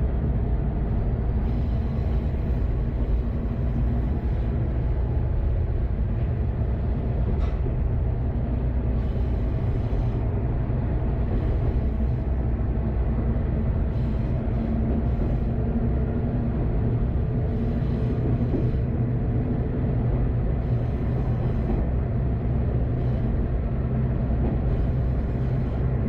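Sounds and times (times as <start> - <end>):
diesel engine droning: 0.0 - 26.0
wheels rumbling on track: 0.0 - 26.0.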